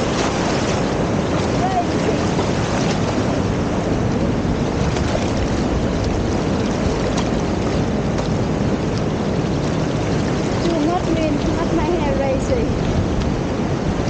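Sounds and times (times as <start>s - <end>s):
waves rushing on beach: 0.0s - 14.0s
wind buffeting microphone: 0.0s - 14.0s.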